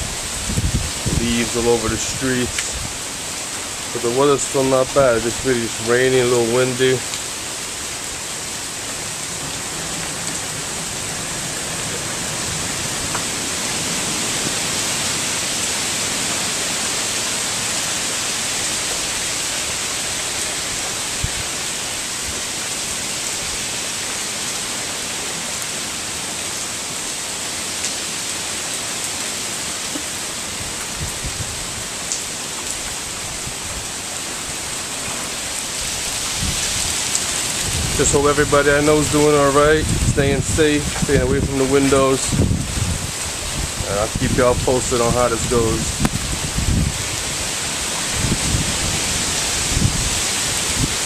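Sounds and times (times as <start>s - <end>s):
heavy rain hissing: 0.0s - 51.0s
wind: 0.0s - 51.0s.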